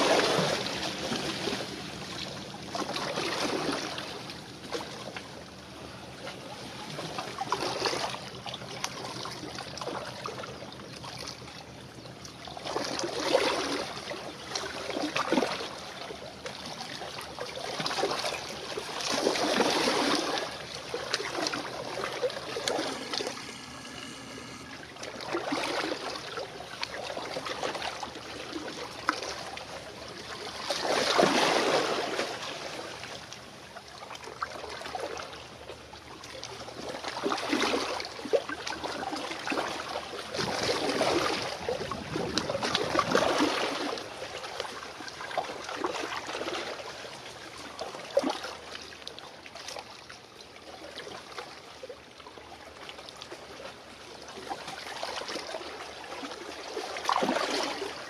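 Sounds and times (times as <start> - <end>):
waves lapping on shore: 0.0 - 58.0.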